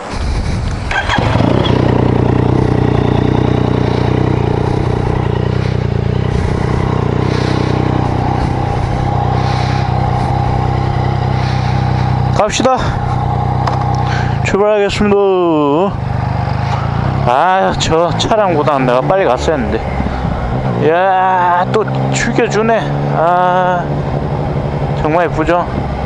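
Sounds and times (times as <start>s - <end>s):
motorcycle engine starting and idling: 0.0s - 23.8s.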